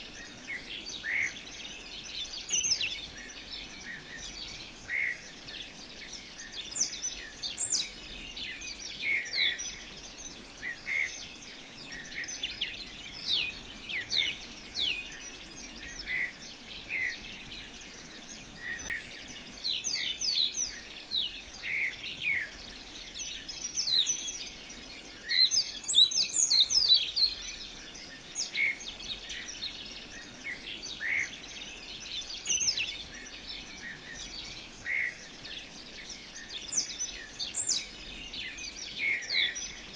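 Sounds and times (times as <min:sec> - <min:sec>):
birds chirping: 0:00.0 - 0:39.9
steady background hiss: 0:00.0 - 0:39.9.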